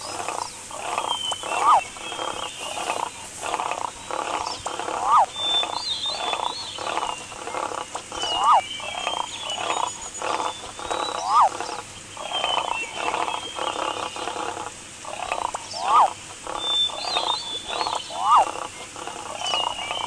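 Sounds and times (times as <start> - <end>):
croaking pulses: 0.0 - 20.0
rising and falling animal call: 0.1 - 20.0.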